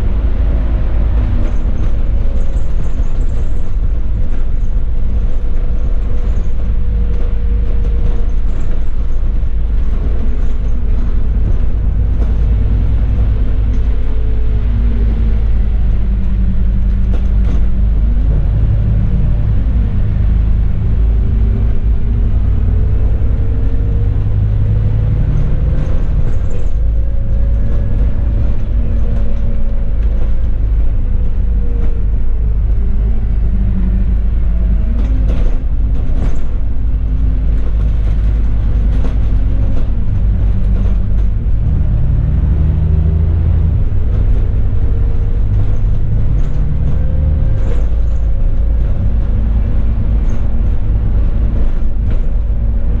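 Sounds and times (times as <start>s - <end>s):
bus engine rumble and whine: 0.0s - 53.0s.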